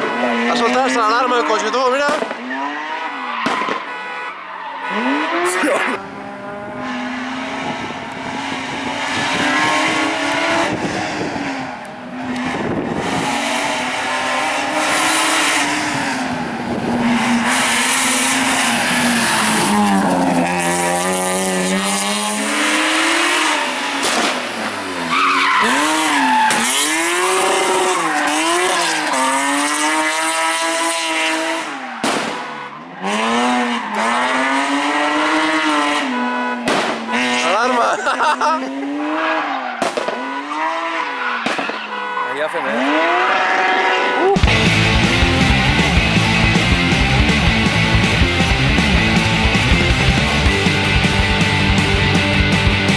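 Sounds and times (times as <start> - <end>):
rally car engine accelerating hard: 0.0 - 4.0, 4.8 - 52.9.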